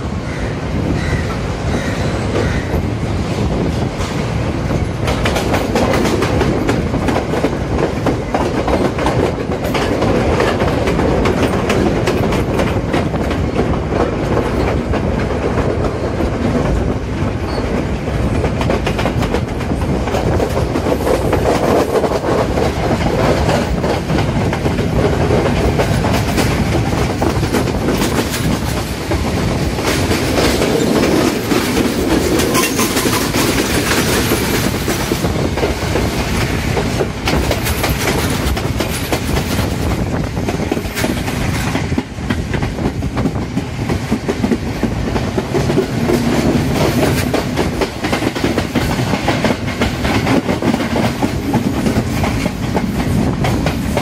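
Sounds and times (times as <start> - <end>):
train running noise rush: 0.0 - 54.0
train wheels clattering on rails: 0.0 - 54.0.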